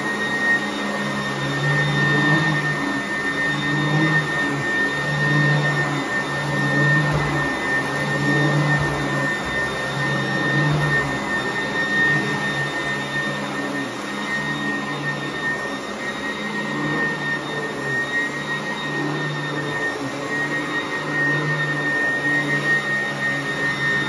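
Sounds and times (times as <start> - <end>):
upright vacuum cleaner running: 0.0 - 24.0.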